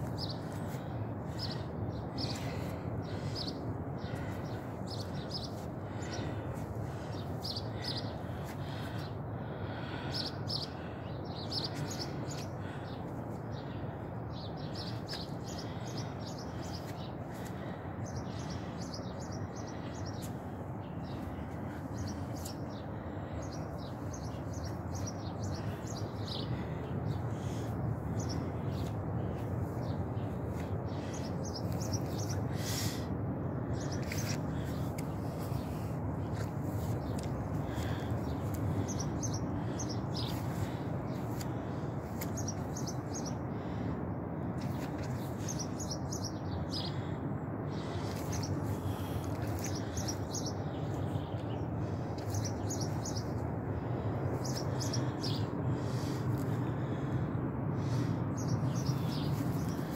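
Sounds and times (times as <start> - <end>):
small birds chirping: 0.0 - 43.9, 44.6 - 57.2, 57.8 - 59.9
low background rush: 0.0 - 59.9.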